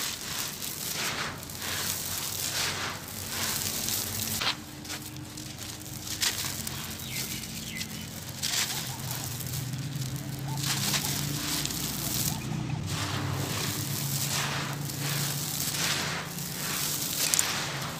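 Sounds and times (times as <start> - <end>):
hands crushing dry sand: 0.0 - 17.9.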